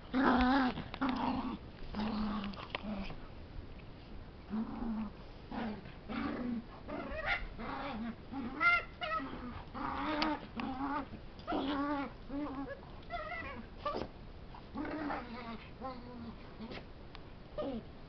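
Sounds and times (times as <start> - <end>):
puppy growling and whining: 0.0 - 3.2, 4.5 - 16.9, 17.6 - 17.9.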